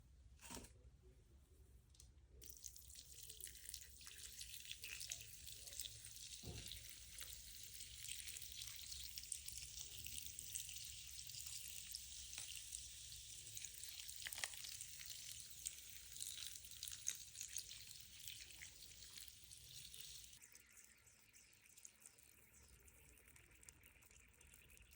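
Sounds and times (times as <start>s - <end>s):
clay fizzing in water: 2.4s - 24.9s.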